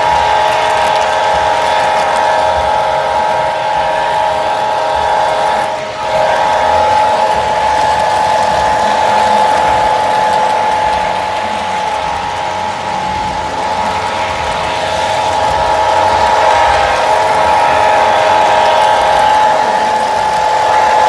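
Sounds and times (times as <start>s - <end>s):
model train motor whine: 0.0s - 21.0s
wheels rattling on rails: 0.0s - 21.0s.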